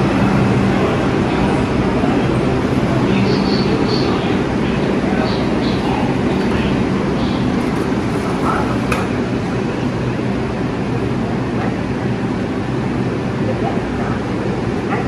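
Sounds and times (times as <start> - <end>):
station noise: 0.0 - 15.0
train equipment humming: 0.0 - 15.0.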